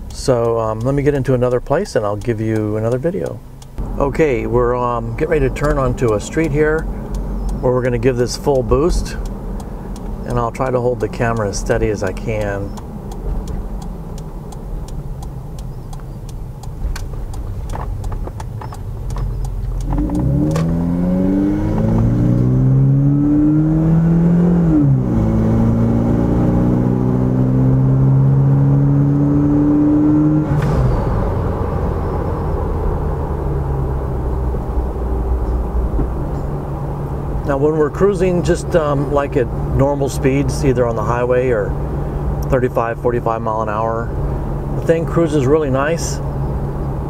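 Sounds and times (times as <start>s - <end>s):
turbocharged engine revving: 0.0s - 47.0s.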